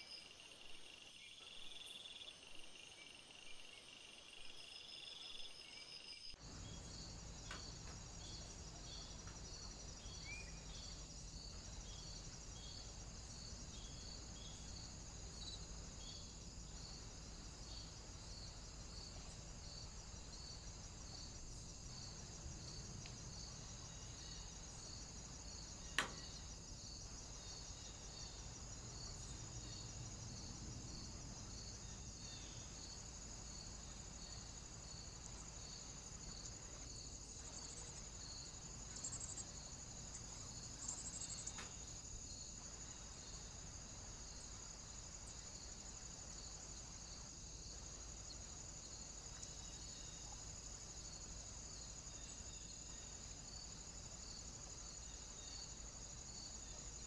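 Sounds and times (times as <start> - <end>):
crickets chirping: 0.0 - 57.0
low hum and hiss: 3.7 - 57.0.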